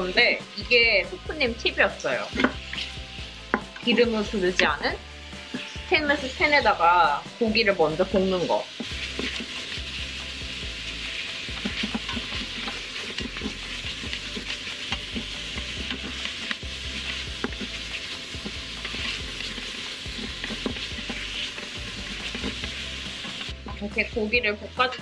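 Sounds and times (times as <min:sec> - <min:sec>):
pork sizzling in pot: 0:00.0 - 0:25.0
wooden spatula scraping pot: 0:01.9 - 0:06.9, 0:08.0 - 0:24.1.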